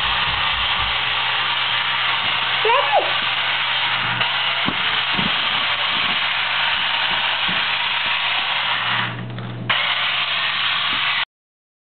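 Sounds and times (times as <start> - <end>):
toy car motors whirring: 0.0 - 11.3.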